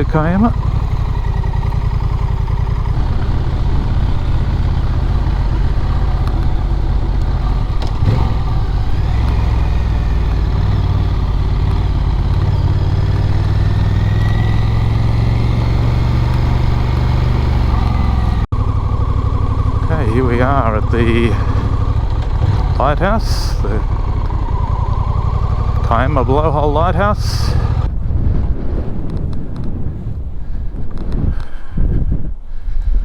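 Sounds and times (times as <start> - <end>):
motorcycle engine running: 0.0 - 31.1.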